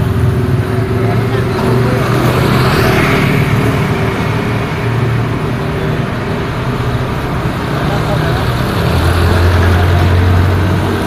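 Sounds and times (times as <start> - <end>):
tyre and road noise: 0.0 - 11.0
vehicle engines humming: 0.0 - 11.0
vehicle passing: 0.0 - 11.0.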